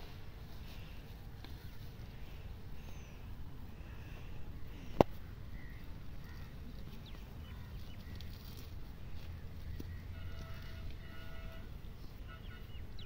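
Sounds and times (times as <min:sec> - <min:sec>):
low wind rumble: 0:00.0 - 0:13.0
distant bird calls: 0:00.6 - 0:13.0.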